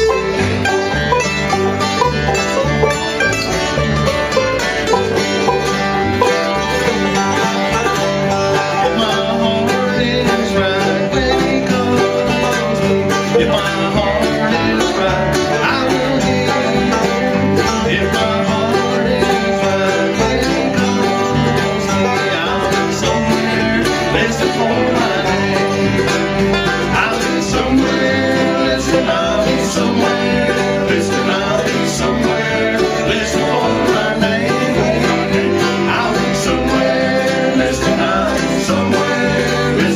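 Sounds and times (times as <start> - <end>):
banjo: 0.0 - 39.9
bluegrass band playing: 0.0 - 39.9
guitar: 0.0 - 39.9.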